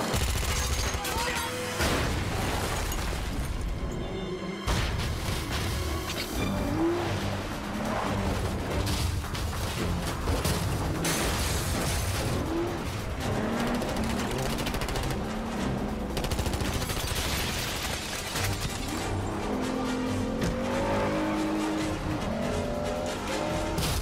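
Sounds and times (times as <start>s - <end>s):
dramatic film score music: 0.0s - 24.0s.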